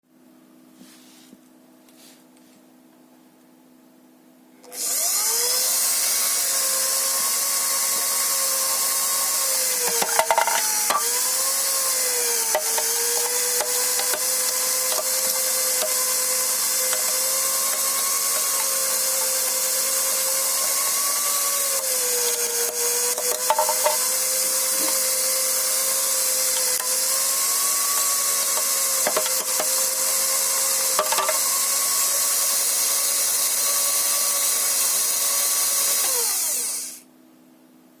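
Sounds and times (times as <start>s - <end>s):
electric motor whine: 4.6s - 37.0s.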